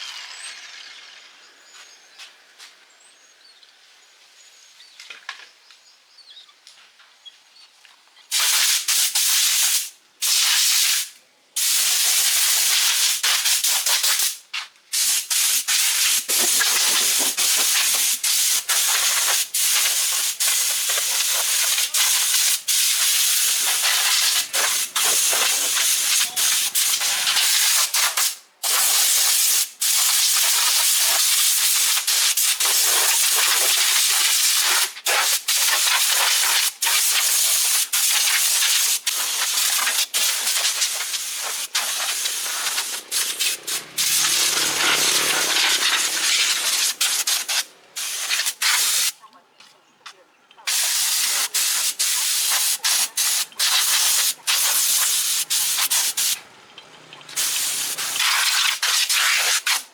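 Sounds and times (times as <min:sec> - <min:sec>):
compressed air gun hissing: 0:08.3 - 0:49.2, 0:50.7 - 0:56.4, 0:57.4 - 0:59.9.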